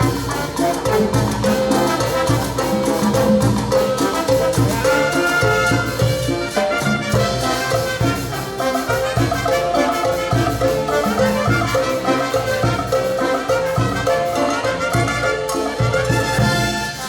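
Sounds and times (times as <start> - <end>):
band playing cumbia: 0.0 - 17.0.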